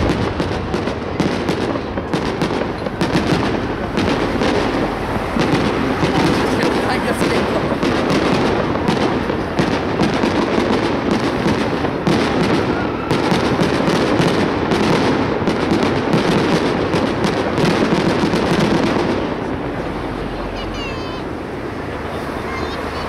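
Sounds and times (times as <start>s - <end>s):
fireworks popping and crackling: 0.0s - 23.0s.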